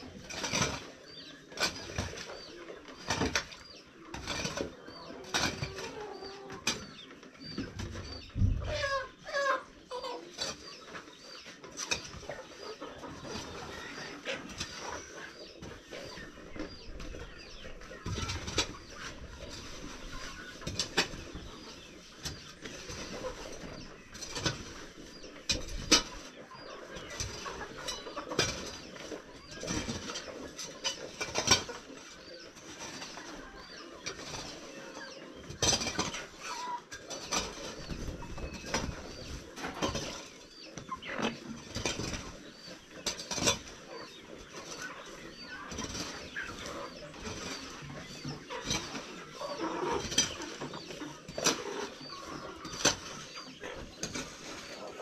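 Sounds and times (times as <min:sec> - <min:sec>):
tool knocking and scraping: 0:00.0 - 0:08.9, 0:10.3 - 0:55.0.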